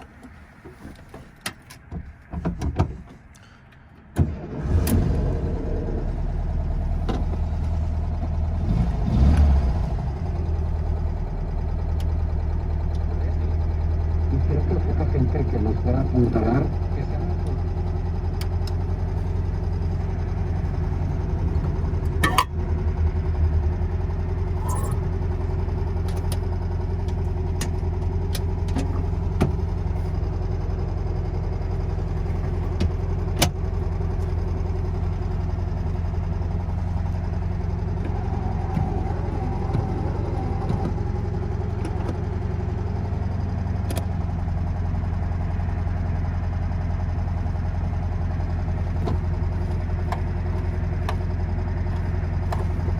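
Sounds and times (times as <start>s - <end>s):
car engine idling: 3.3s - 52.9s.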